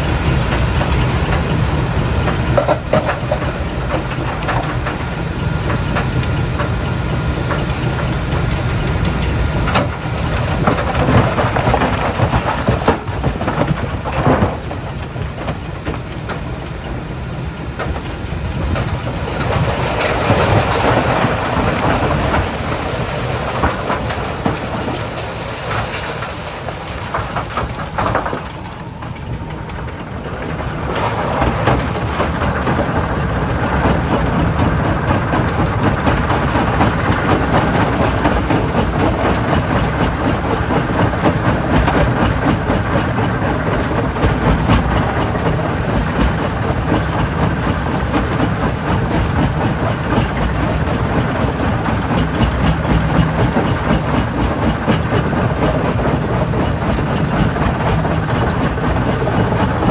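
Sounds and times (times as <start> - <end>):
low machinery rumble: 0.0 - 59.9
rock crushing clatter: 0.0 - 59.9.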